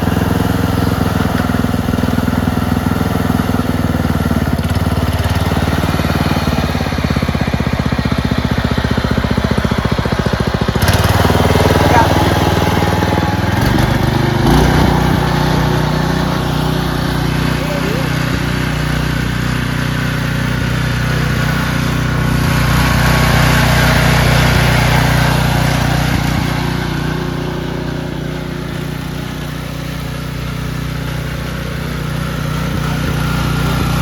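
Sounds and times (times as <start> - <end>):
lawn tractor engine running: 0.0 - 34.0.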